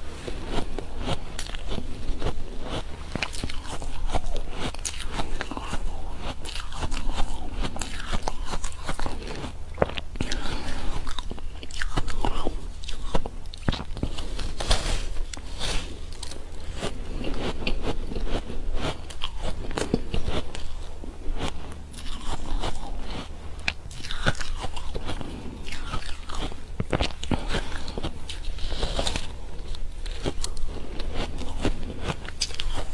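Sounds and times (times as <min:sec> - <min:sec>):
crunching frozen ice cake: 0:00.0 - 0:32.9.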